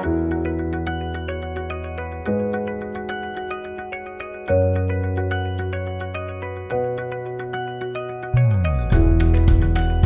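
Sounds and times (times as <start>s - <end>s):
electronic music with mallet notes: 0.0s - 10.0s.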